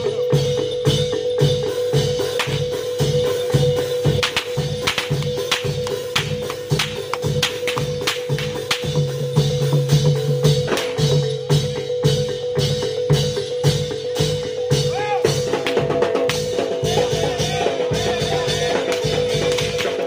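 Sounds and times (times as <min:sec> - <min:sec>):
drum and percussion strokes: 0:00.0 - 0:20.0
metal gong-chime notes: 0:00.0 - 0:20.0.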